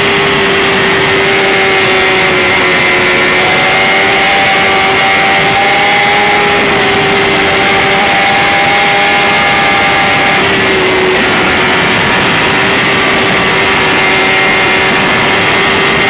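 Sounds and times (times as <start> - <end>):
motorcycle engine at high revs: 0.0 - 16.0
wind noise: 0.0 - 16.0.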